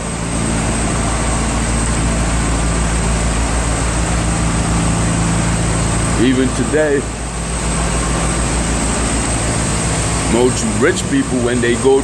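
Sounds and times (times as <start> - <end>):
mechanical drone with hum: 0.0 - 12.0.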